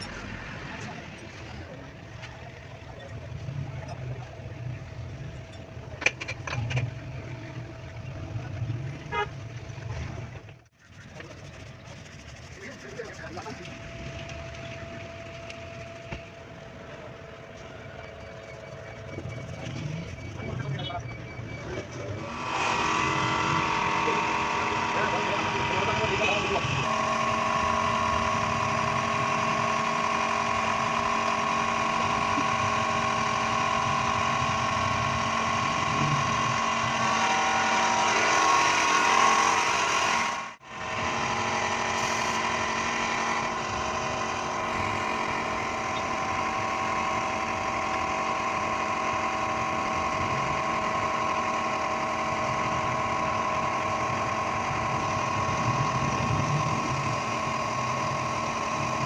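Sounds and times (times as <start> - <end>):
motor humming and rumbling: 0.0 - 59.0.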